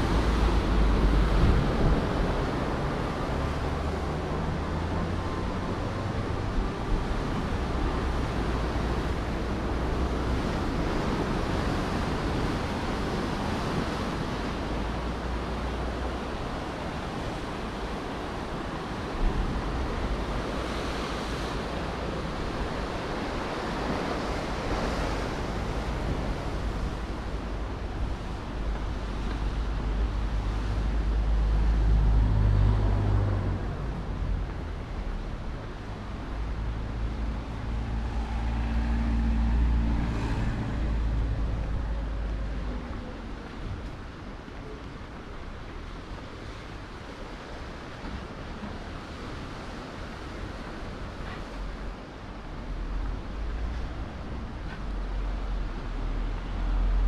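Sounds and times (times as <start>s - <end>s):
wind buffeting microphone: 0.0s - 47.1s
waves washing on shore: 0.0s - 57.0s.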